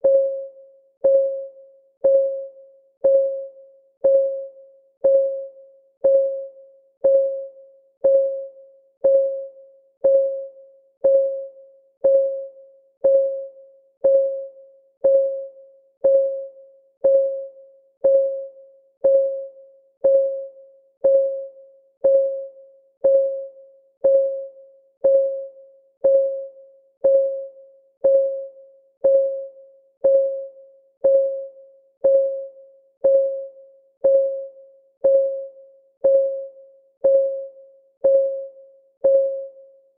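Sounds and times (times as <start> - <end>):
timer clock ticking: 7.0 - 39.5.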